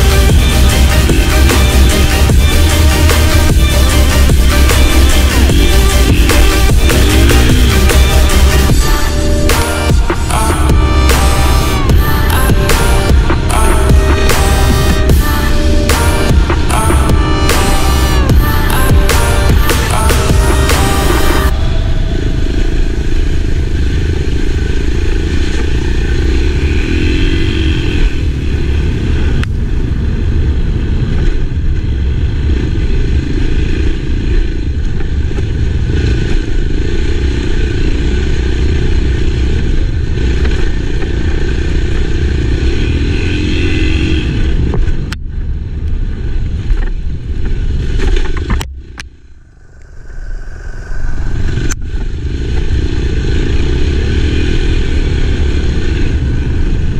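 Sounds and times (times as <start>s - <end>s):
dirt bike engine running: 0.0s - 50.0s, 51.1s - 56.9s.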